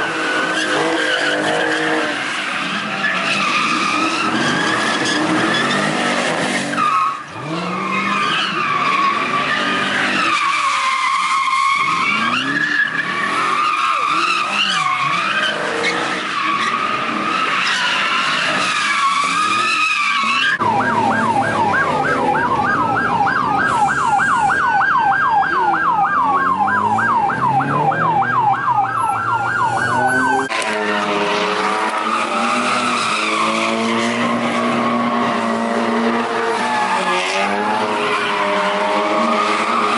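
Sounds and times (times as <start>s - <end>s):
car tyres squealing: 0.0s - 39.9s
siren yelping rapidly: 0.0s - 39.9s.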